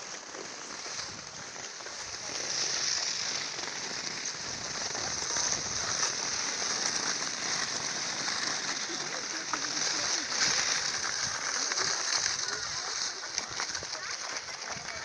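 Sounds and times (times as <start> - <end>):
skis sliding over packed snow: 0.0 - 15.0.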